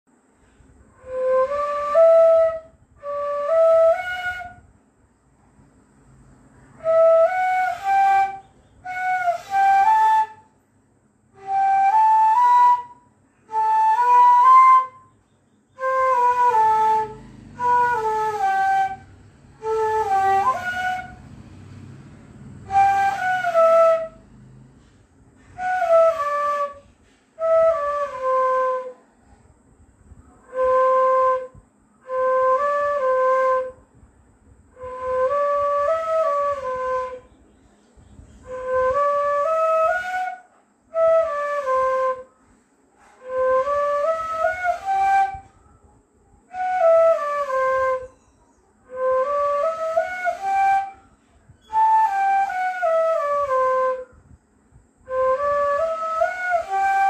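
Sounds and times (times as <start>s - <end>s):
bamboo flute melody: 0.9s - 4.8s, 6.7s - 10.6s, 11.3s - 29.1s, 30.2s - 33.9s, 34.7s - 37.4s, 38.4s - 54.3s, 55.0s - 57.0s.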